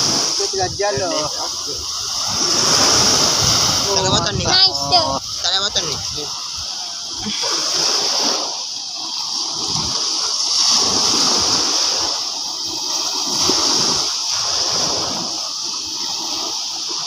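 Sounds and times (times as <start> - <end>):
shallow seawater splashing: 0.0 - 17.0.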